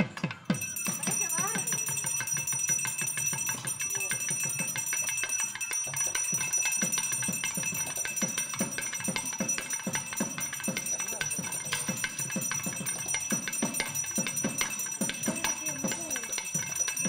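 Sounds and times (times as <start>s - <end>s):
brass hand bell ringing rapidly: 0.4s - 17.0s.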